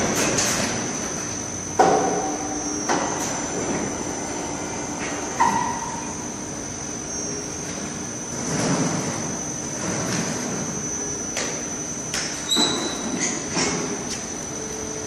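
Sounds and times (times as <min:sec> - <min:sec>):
high-pitched machinery whine: 0:00.0 - 0:15.0.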